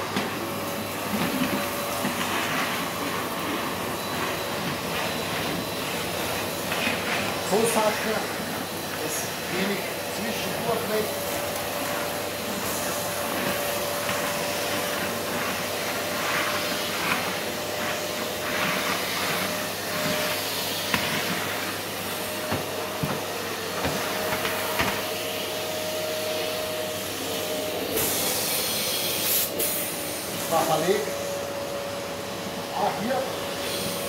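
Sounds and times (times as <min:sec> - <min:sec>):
vacuum cleaner sucking sawdust: 0:00.0 - 0:34.0.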